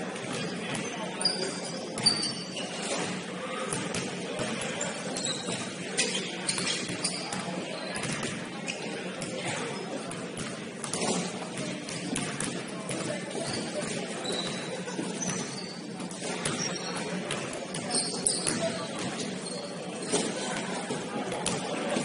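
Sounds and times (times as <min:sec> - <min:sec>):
sneaker squeaks: 0:00.2 - 0:22.0.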